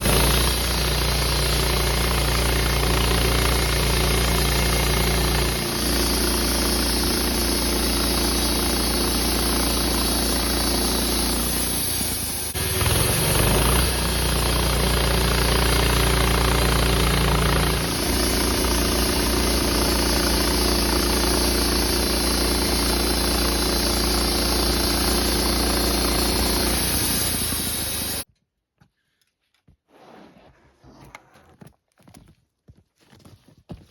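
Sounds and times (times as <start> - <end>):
band sawmill sawing log: 0.0 - 28.3.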